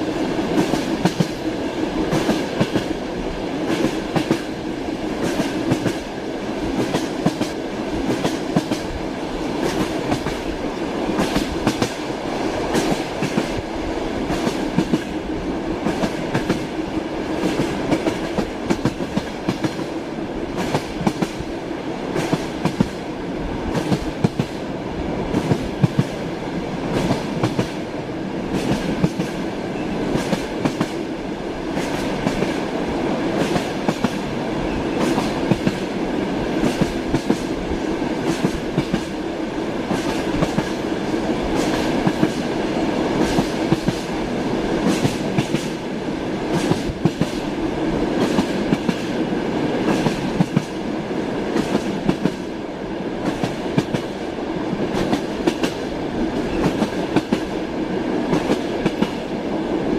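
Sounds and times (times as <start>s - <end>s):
train wheels clattering over rails: 0.0s - 21.5s, 22.1s - 23.1s, 23.7s - 24.6s, 25.2s - 26.2s, 26.8s - 32.7s, 33.3s - 44.2s, 44.8s - 50.8s, 51.4s - 52.5s, 53.2s - 57.6s, 58.2s - 59.4s
train running rumble: 0.0s - 59.8s.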